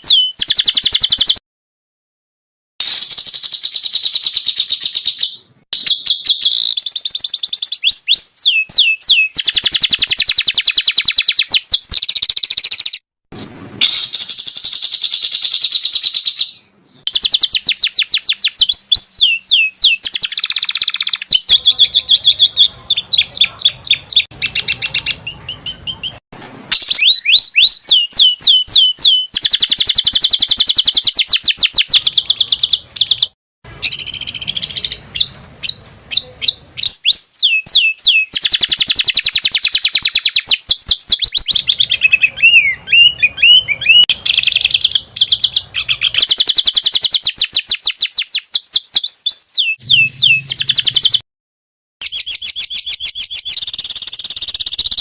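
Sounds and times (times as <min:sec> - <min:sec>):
songbird trills and whistles: 0:00.0 - 0:01.4, 0:02.9 - 0:13.0, 0:13.8 - 0:51.2, 0:52.0 - 0:55.0.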